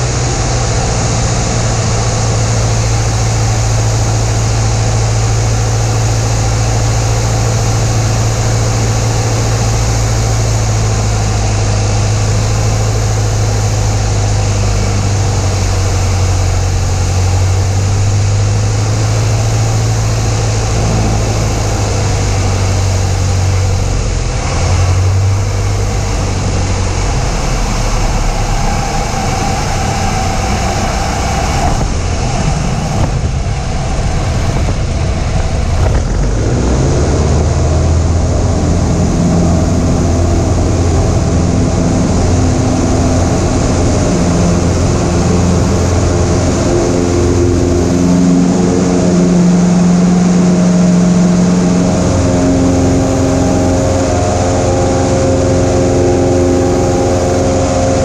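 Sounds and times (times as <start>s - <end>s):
propeller plane engine droning: 0.0s - 58.0s.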